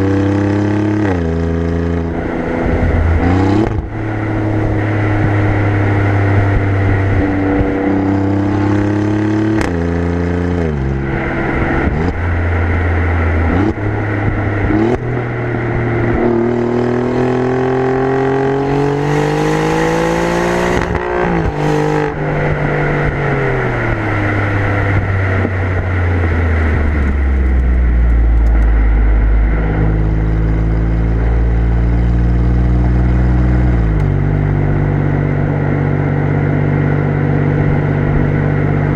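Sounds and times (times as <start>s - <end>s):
car exhaust revving through gears: 0.0s - 38.9s.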